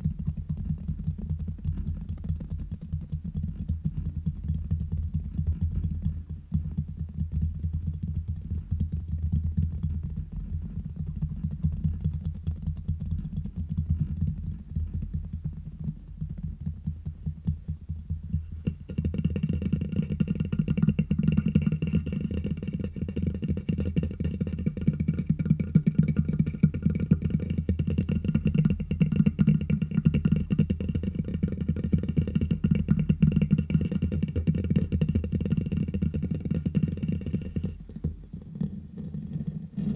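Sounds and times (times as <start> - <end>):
fingertips tapping on microphone: 0.0 - 39.9.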